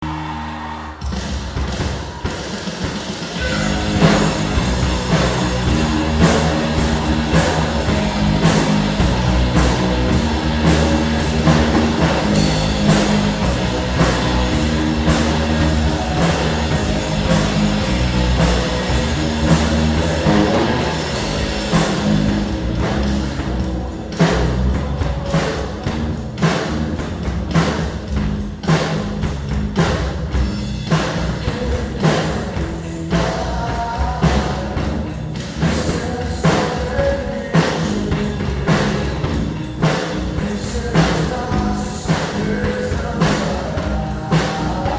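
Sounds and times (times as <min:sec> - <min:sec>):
rock music with drums: 0:00.0 - 0:44.9.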